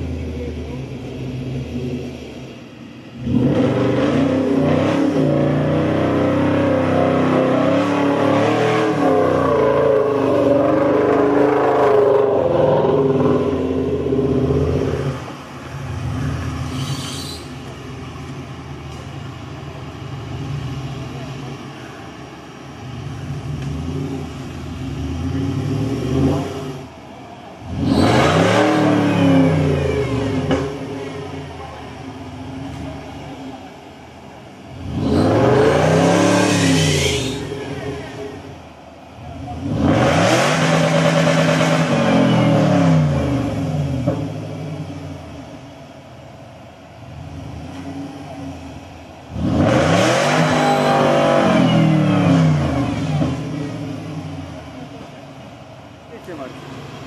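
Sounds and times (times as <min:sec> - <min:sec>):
off-road engine revving: 0:00.0 - 0:17.6, 0:22.8 - 0:27.0, 0:27.6 - 0:33.6, 0:34.7 - 0:45.6, 0:47.0 - 0:55.2.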